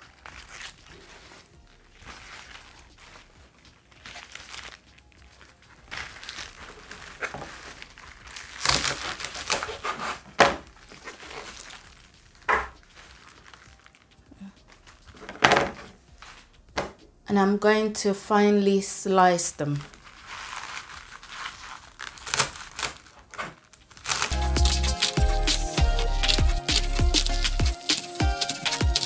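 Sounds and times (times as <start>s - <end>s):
leafy greens rustling: 0.0s - 29.0s.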